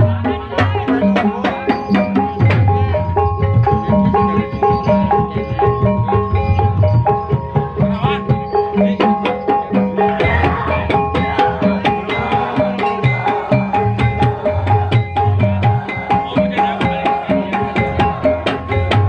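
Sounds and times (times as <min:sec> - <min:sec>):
gamelan ensemble playing: 0:00.0 - 0:19.0
hand drums beating a driving rhythm: 0:00.0 - 0:19.0.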